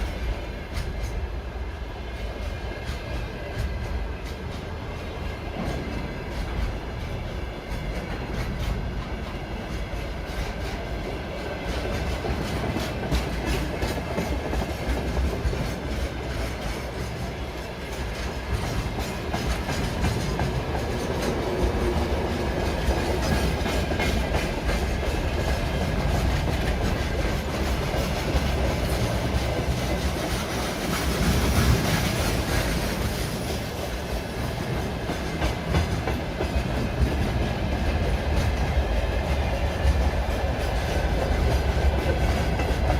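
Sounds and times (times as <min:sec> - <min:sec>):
train wheels clattering over rails: 0:00.0 - 0:42.9.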